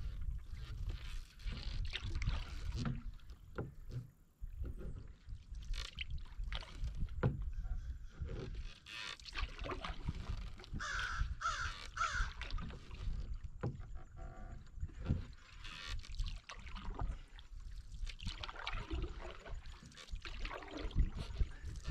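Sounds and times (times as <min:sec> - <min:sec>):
canoe paddle strokes in water: 0:00.0 - 0:21.9.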